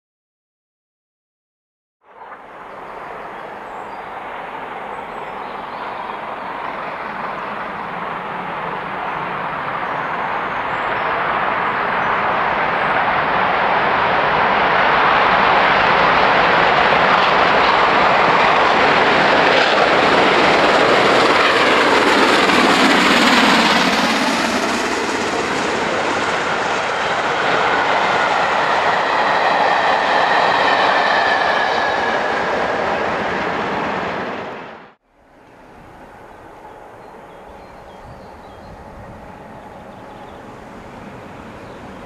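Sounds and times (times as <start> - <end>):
steam locomotives running: 2.1 - 42.0.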